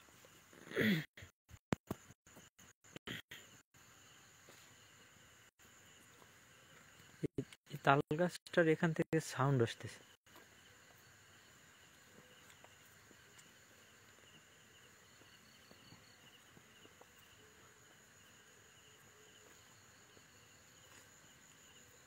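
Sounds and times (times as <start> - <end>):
night insects chirping: 0.0 - 22.0.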